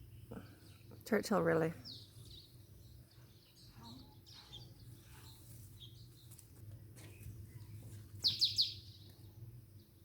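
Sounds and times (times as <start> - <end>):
bird chirps: 1.8 - 10.0.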